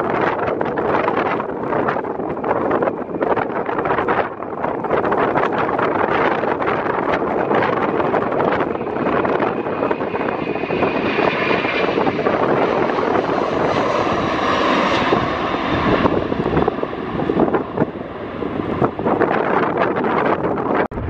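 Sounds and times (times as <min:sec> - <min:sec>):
jet engines at takeoff: 0:00.0 - 0:21.0.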